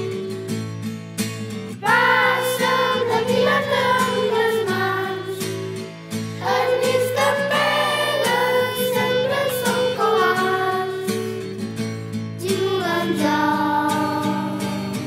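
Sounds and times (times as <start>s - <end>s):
children singing: 0.0s - 0.5s, 1.8s - 5.8s, 6.4s - 11.6s, 12.4s - 15.0s.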